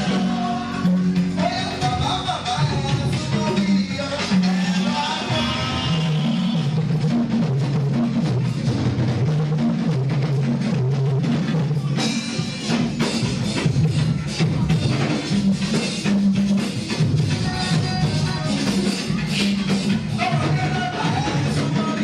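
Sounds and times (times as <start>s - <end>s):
bass line: 0.0s - 22.0s
drum kit beat: 0.0s - 22.0s.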